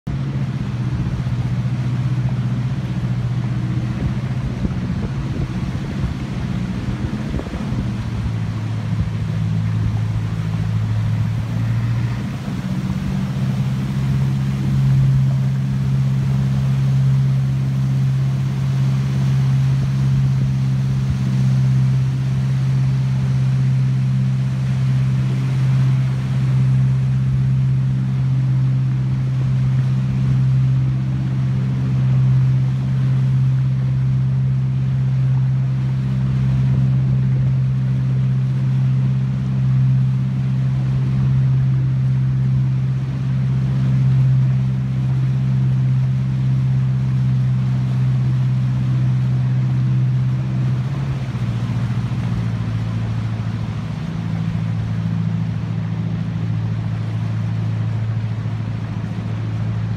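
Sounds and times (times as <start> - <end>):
boat engine drone: 0.0 - 59.9.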